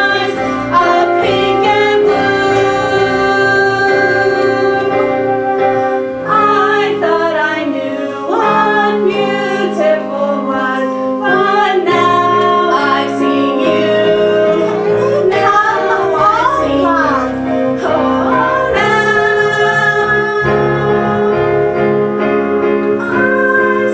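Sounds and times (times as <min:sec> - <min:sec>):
woman singing: 0:00.0 - 0:05.7, 0:06.3 - 0:21.7, 0:23.0 - 0:23.9
instrumental accompaniment: 0:00.0 - 0:23.9.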